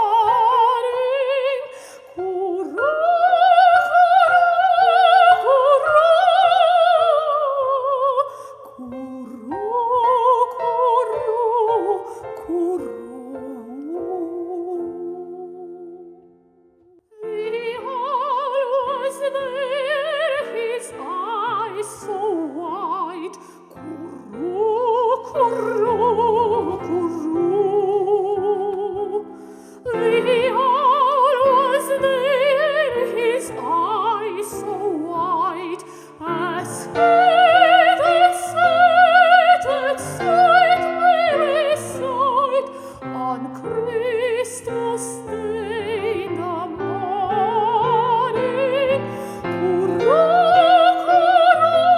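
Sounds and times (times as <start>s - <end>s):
operatic soprano singing: 0.0s - 16.4s, 17.1s - 51.9s
piano accompaniment: 8.8s - 51.9s.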